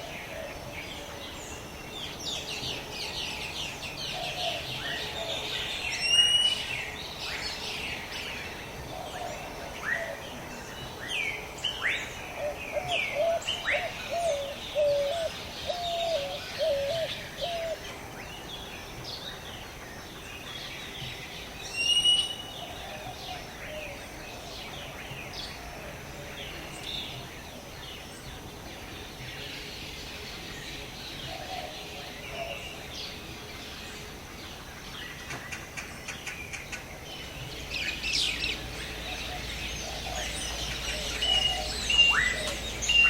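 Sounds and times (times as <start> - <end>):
birds chirping and calling: 0.0 - 43.0.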